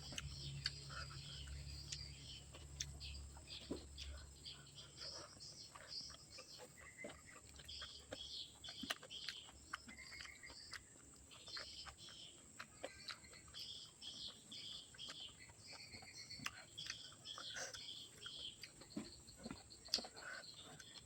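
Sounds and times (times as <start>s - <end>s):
wet chewing and lip smacks: 0.0s - 21.0s.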